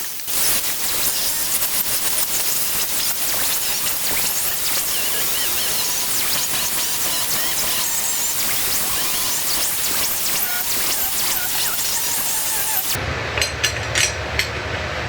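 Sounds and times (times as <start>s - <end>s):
power tool cutting steel: 0.0s - 13.0s.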